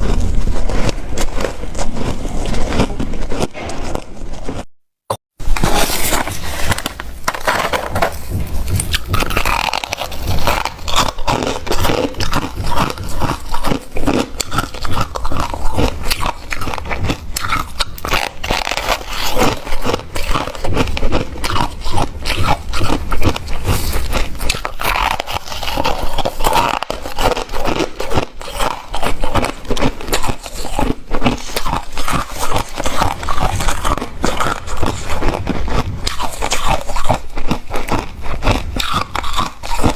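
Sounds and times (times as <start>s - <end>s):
chewing ice crunching: 0.0s - 4.5s, 8.6s - 39.9s.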